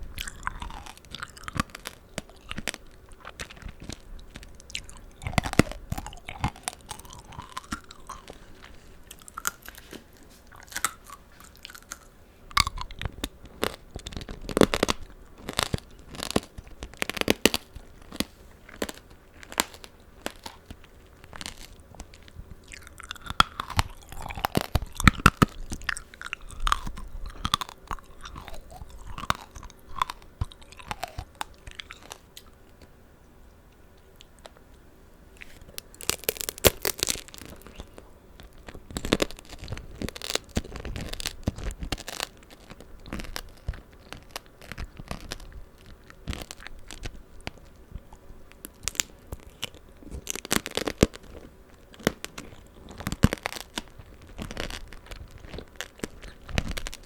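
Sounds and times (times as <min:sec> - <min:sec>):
wet chewing of fruit: 0:00.0 - 0:32.5, 0:35.4 - 0:57.0
sugar shell cracking and crunching: 0:00.0 - 0:32.9, 0:35.4 - 0:57.0.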